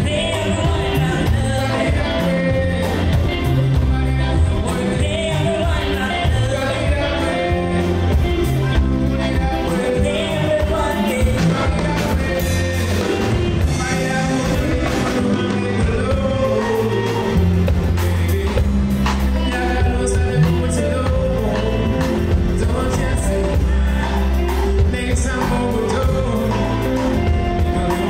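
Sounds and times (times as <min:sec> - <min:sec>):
drums: 0:00.0 - 0:28.0
electric guitar: 0:00.0 - 0:28.0
person singing: 0:00.0 - 0:28.0.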